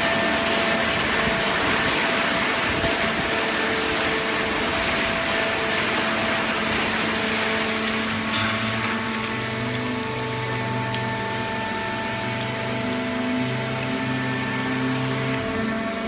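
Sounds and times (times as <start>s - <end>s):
baler machinery hum: 0.0s - 16.0s
deeper machine hum: 0.0s - 16.0s.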